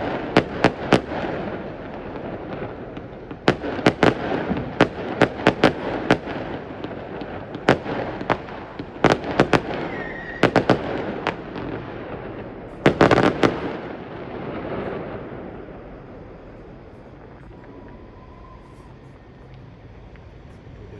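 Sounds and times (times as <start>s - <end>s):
fireworks bangs: 0.0s - 20.9s.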